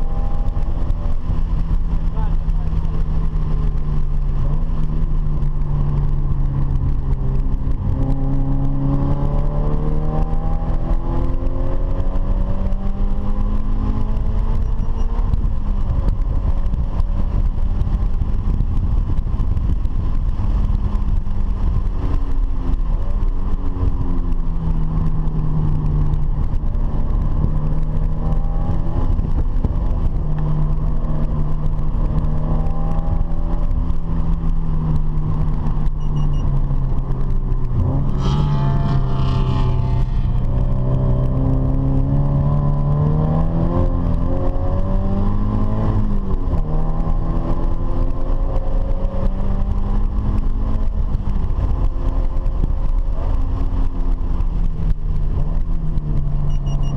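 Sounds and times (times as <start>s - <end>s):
vehicle engine accelerating: 0.0s - 56.9s
wind and road rumble: 0.0s - 56.9s.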